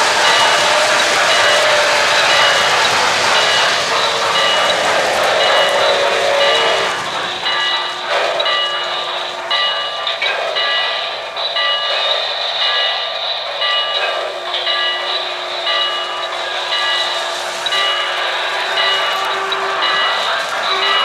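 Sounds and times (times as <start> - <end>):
bell ringing: 0.0 - 21.0
model train running: 0.0 - 21.0.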